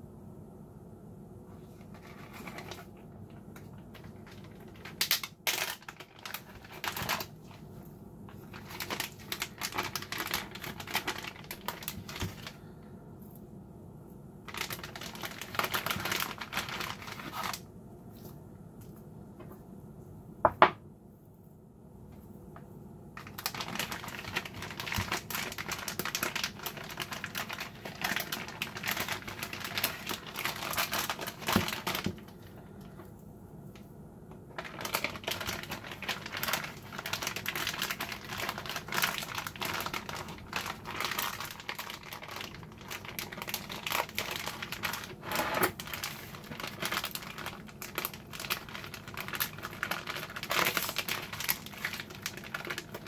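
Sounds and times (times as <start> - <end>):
plastic bag crinkling and rustling: 1.6 - 12.7, 14.4 - 18.4, 23.2 - 33.2, 34.4 - 53.0.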